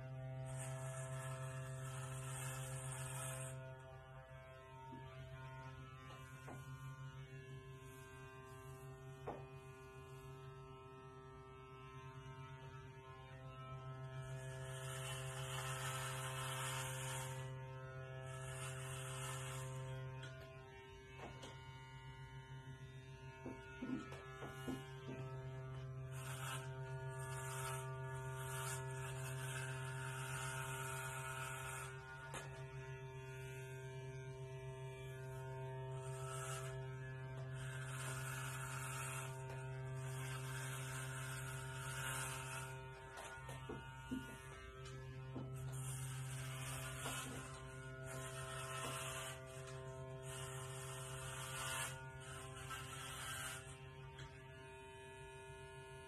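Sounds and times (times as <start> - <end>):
electric hair clippers buzzing: 0.0 - 56.0.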